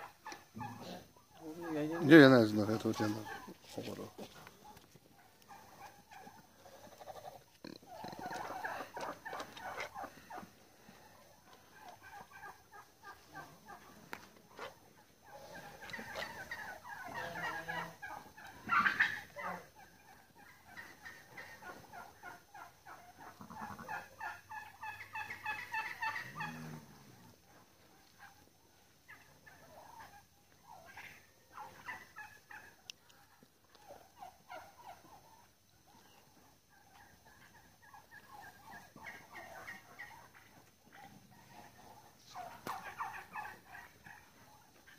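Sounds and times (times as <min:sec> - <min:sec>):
fowl warbling calls: 0:00.0 - 0:27.4, 0:28.0 - 0:44.9.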